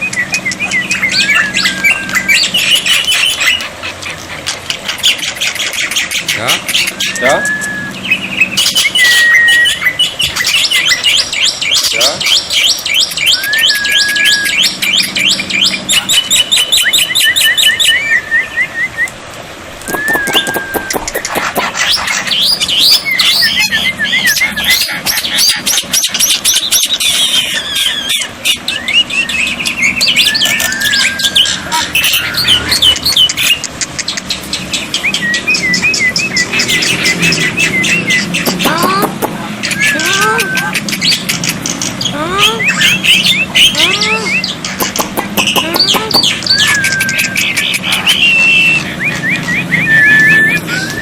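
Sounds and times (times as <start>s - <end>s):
bird calling with harsh chattering: 0.0s - 51.0s.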